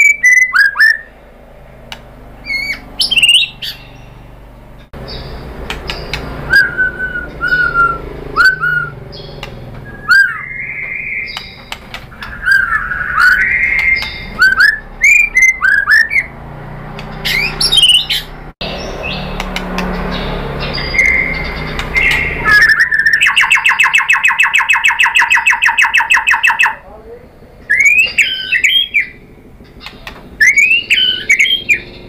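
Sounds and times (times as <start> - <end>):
bird singing whistled song: 0.0 - 1.1, 2.4 - 4.3, 5.0 - 16.4, 17.2 - 26.8, 27.6 - 32.0.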